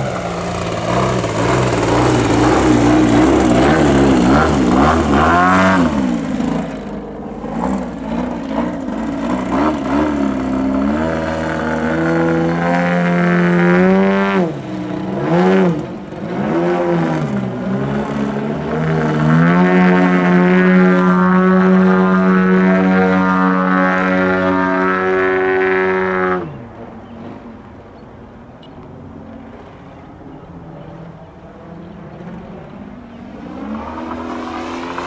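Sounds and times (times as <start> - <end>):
model plane engine and propeller: 0.0 - 35.0.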